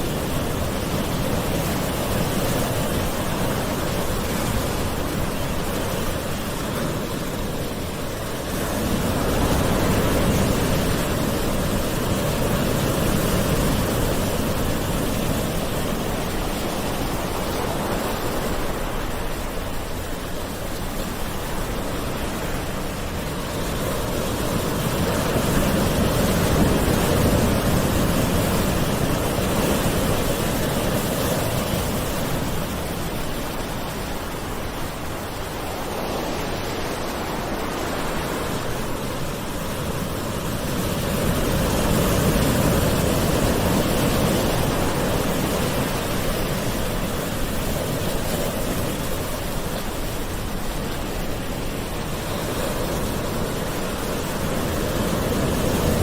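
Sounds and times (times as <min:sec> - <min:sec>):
gentle ocean waves: 0:00.0 - 0:56.0.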